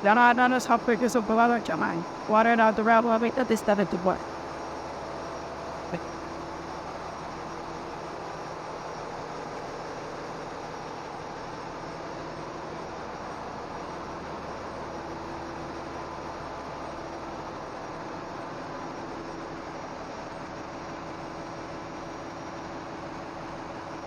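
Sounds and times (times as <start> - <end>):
engine room machinery din: 0.0 - 24.0
faint steady hums: 0.0 - 24.0.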